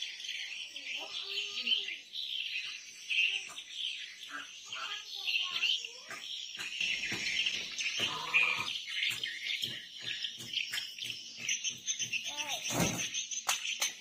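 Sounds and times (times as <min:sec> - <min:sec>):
insects chorus: 0:00.0 - 0:13.1.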